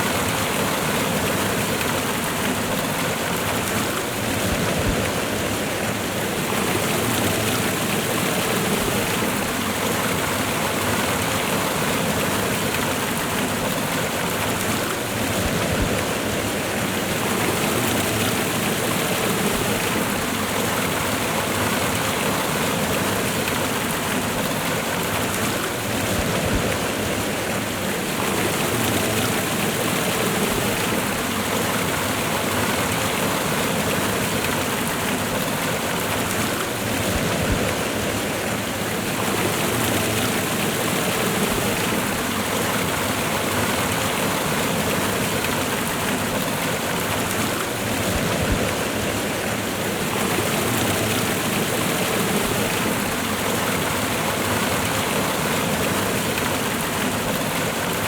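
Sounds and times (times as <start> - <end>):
waterfall and river rushing: 0.0 - 58.0.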